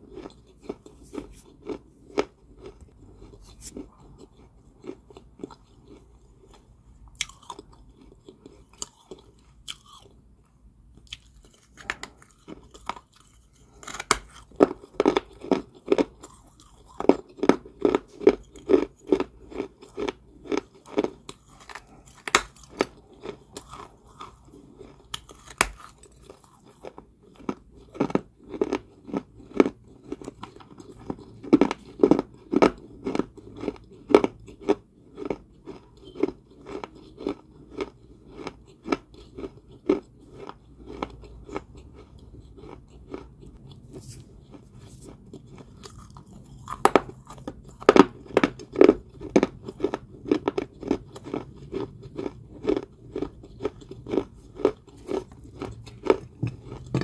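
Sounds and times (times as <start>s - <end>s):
crunchy chewing: 0.0s - 10.2s, 11.0s - 57.0s.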